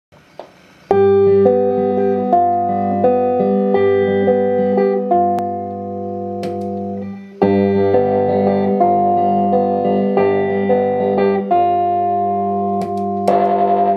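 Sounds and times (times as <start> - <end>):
electric guitar chords: 0.9 - 13.9.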